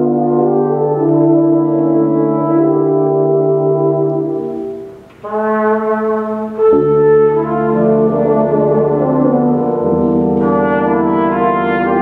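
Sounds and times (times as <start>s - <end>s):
tuba and euphonium ensemble: 0.0s - 12.0s.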